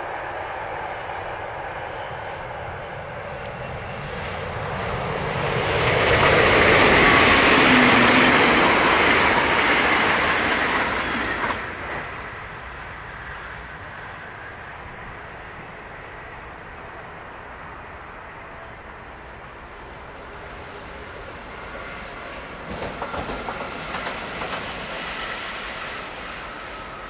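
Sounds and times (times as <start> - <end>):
train passing at speed: 0.0 - 27.0.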